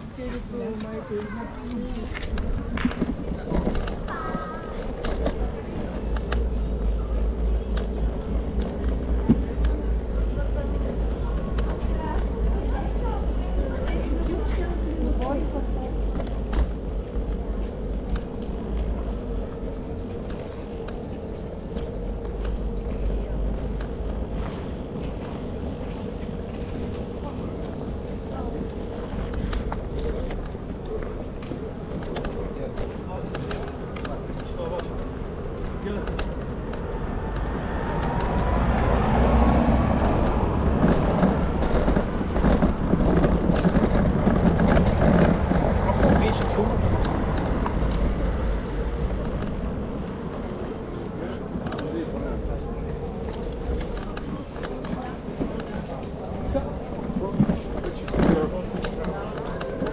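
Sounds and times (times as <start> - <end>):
low traffic rumble: 0.0 - 59.9.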